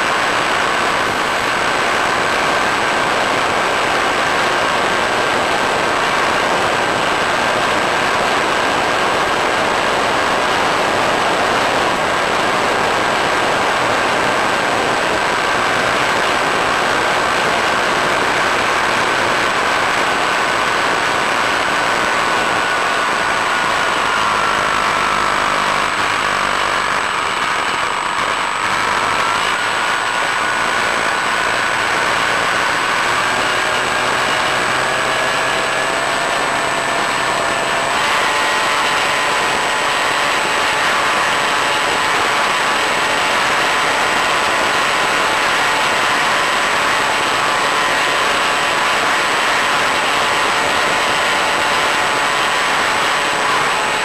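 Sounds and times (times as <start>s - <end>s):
electric motor whine: 0.0s - 54.0s
rushing wind and propeller noise: 0.0s - 54.0s.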